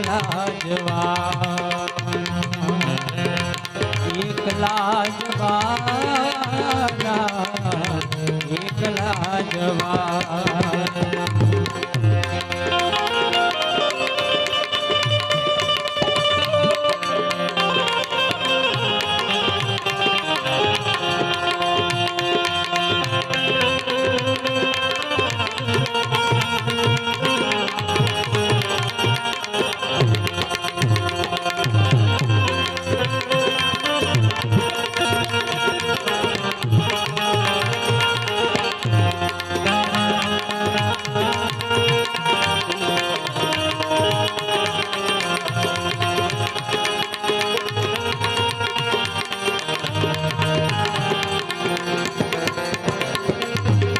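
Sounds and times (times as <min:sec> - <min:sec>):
harmonium melody: 0:00.0 - 0:53.9
tabla rhythm: 0:00.0 - 0:53.9.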